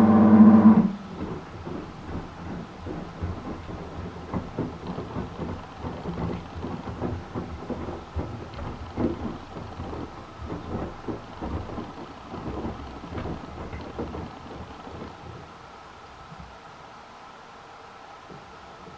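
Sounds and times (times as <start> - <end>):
washing machine sloshing laundry: 0.0 - 16.6.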